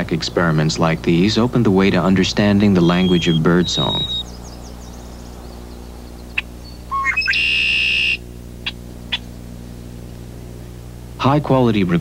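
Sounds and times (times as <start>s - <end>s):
songbird chips and buzzy trill: 0.0s - 11.9s
steady low hum: 0.0s - 12.0s.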